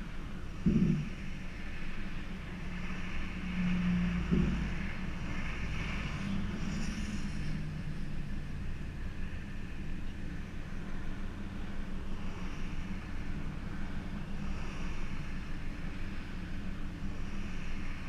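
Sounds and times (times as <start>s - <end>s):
car engine and exhaust droning: 0.0s - 18.0s.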